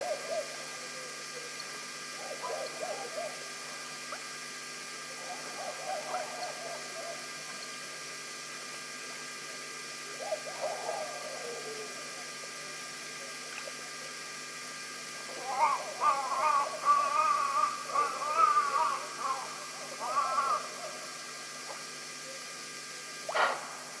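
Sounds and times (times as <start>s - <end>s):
hiss and electrical hum: 0.0s - 24.0s.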